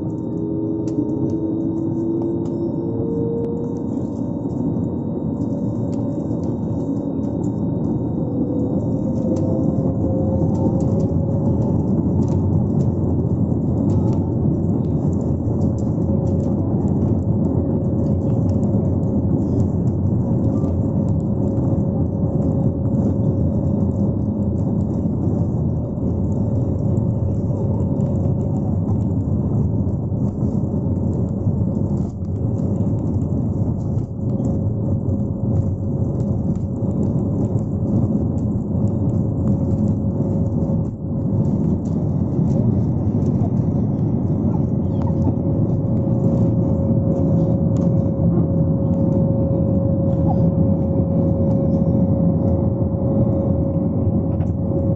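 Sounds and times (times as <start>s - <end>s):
jet engine rumble and whine: 0.0s - 54.9s
steady hum: 0.0s - 54.9s.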